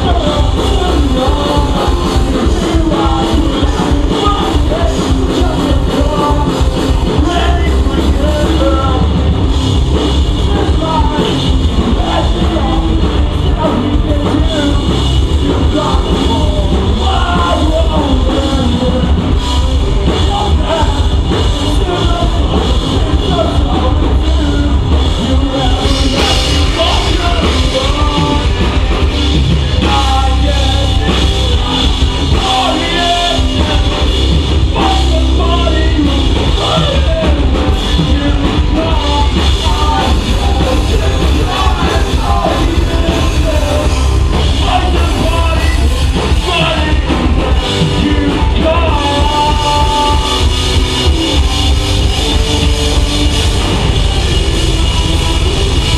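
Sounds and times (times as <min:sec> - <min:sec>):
drum kit: 0:00.0 - 0:55.9
person singing: 0:00.0 - 0:55.9
rock band playing live: 0:00.0 - 0:55.9.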